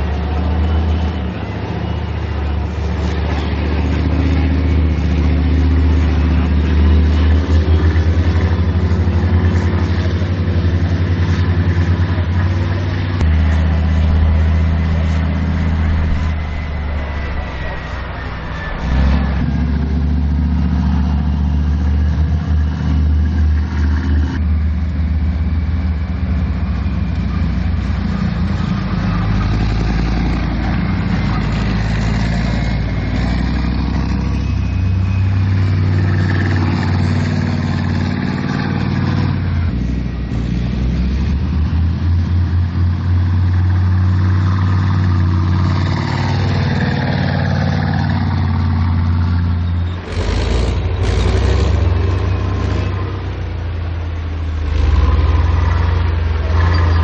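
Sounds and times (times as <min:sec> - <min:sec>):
diesel engines running under load: 0:00.0 - 0:57.0
tracked vehicles driving through mud: 0:00.0 - 0:57.0.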